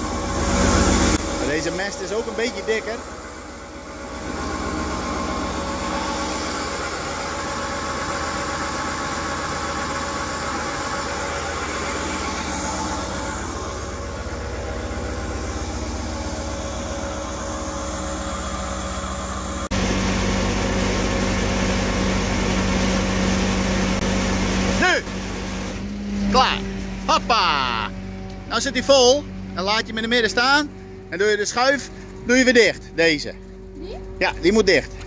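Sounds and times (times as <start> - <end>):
manure pump running: 0.0 - 35.0.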